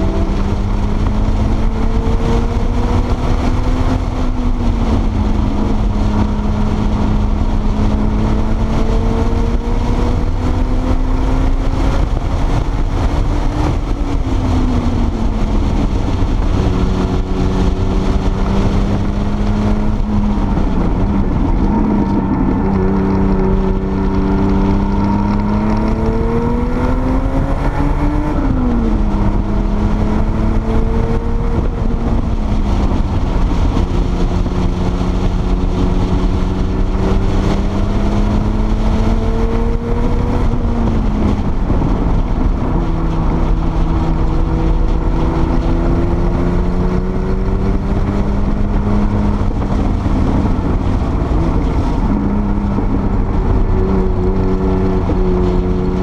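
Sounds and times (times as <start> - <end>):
car engine at speed: 0.0 - 56.0
wind and road noise: 0.0 - 56.0.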